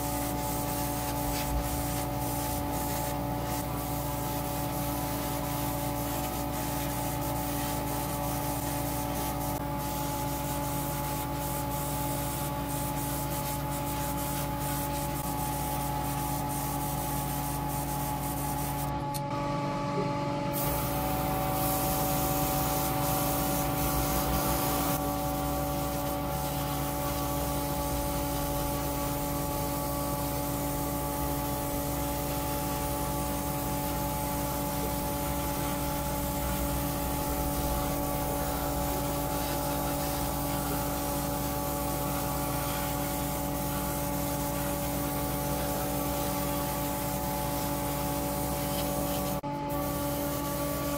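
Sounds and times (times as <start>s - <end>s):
airbrush spraying hiss: 0.0s - 18.9s, 20.6s - 50.9s
extractor fan hum: 1.2s - 46.3s.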